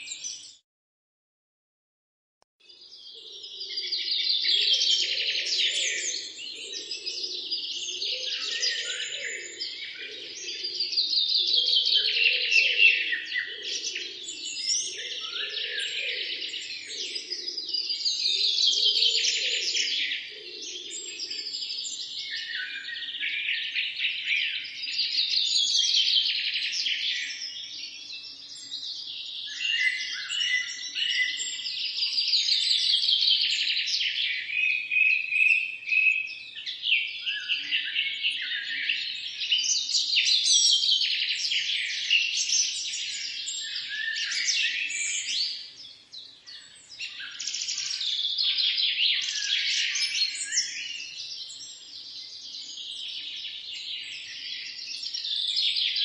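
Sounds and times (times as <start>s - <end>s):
small birds chirping and singing: 0.0s - 0.6s, 2.6s - 56.0s.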